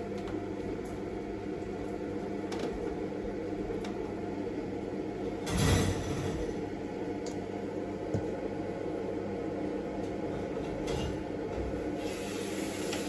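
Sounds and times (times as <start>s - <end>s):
mechanical motor hum: 0.0s - 13.0s.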